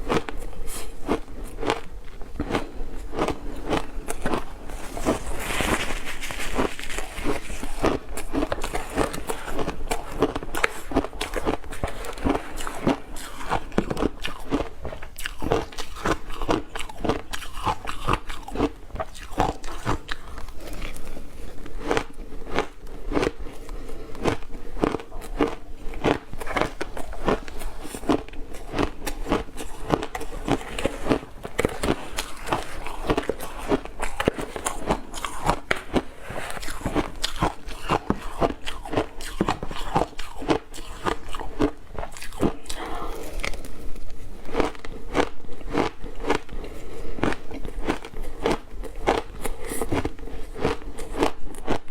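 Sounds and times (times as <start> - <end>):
ice crunching being chewed: 0.0 - 51.9.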